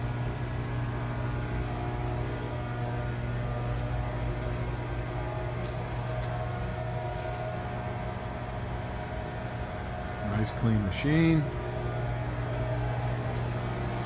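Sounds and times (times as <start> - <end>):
surface grinder motor hum: 1.5 - 14.0.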